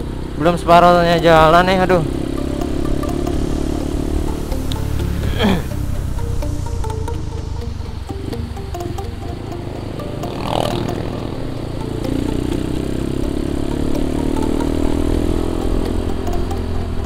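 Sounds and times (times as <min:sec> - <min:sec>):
motorcycle engine running: 0:00.0 - 0:17.0
tyres on wet road: 0:00.0 - 0:17.0.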